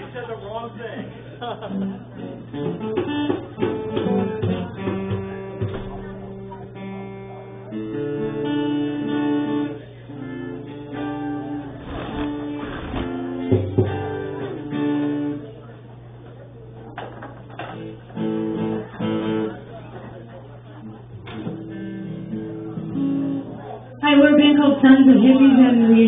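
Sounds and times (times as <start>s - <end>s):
strummed acoustic guitar: 1.0s - 15.6s, 17.4s - 23.9s.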